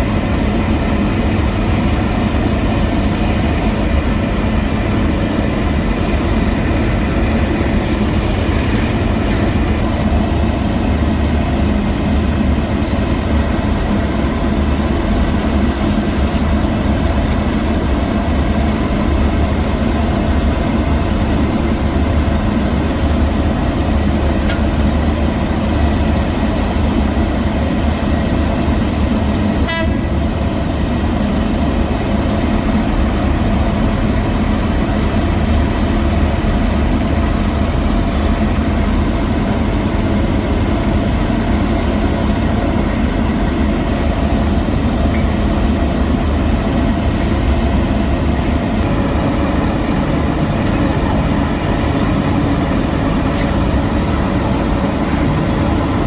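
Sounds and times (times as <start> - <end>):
heavy machinery engine drone: 0.0 - 56.0.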